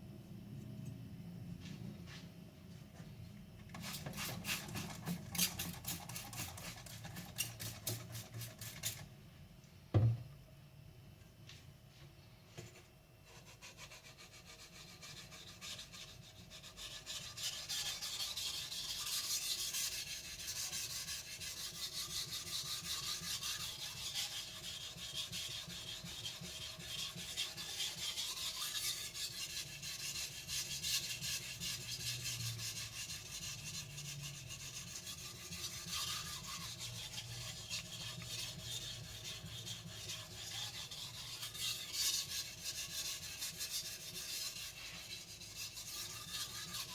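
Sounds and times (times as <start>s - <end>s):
knife scraping on whetstone: 3.8s - 9.1s, 13.4s - 46.9s.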